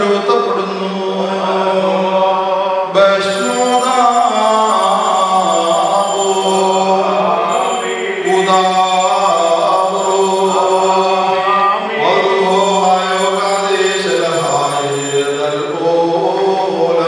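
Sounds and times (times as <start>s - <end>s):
liturgical chanting: 0.8s - 17.0s.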